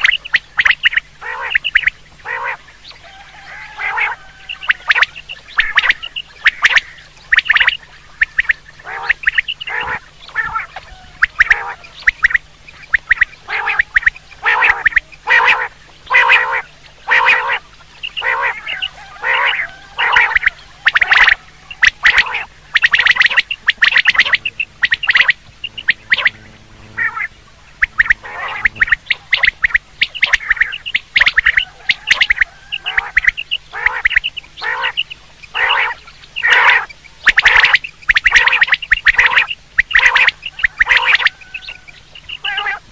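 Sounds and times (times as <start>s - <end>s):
quail calling: 0.0s - 42.9s.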